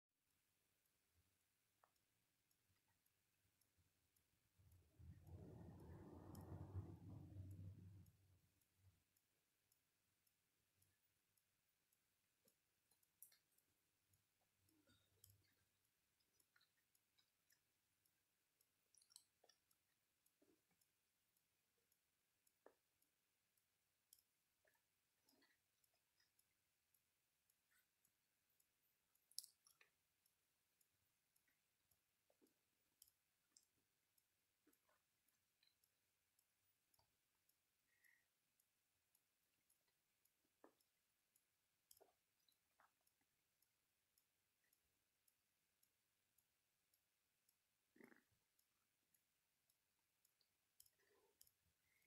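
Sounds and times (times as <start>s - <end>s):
faint small clicks and crackles: 0.2s - 52.0s
faint ticks: 0.3s - 52.0s.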